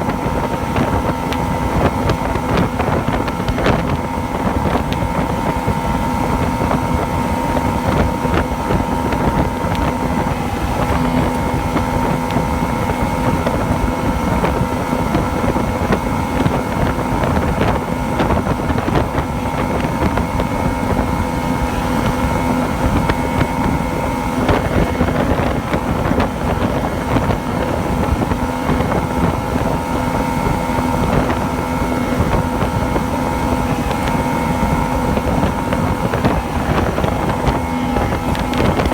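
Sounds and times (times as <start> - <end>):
two-stroke engine running: 0.0 - 38.9.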